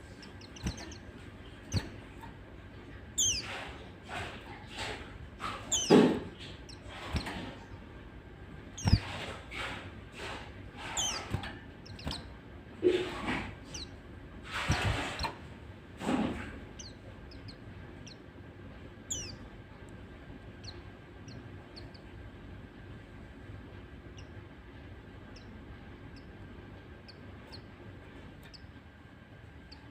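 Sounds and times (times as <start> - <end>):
birds chirping high: 0.0 - 29.9.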